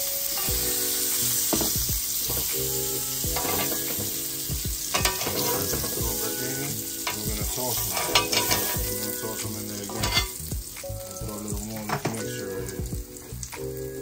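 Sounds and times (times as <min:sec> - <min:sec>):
food sizzling on a grill: 0:00.0 - 0:14.0.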